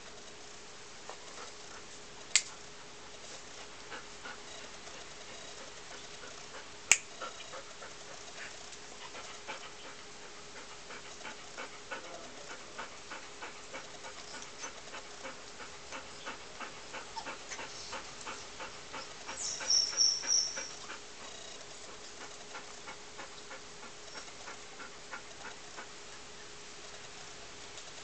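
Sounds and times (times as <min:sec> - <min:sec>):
puppies panting: 0:01.1 - 0:26.6.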